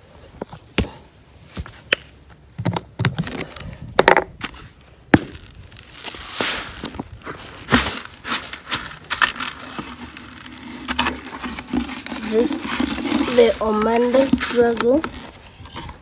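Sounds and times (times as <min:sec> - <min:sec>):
basket and bucket handled: 0:02.6 - 0:16.0.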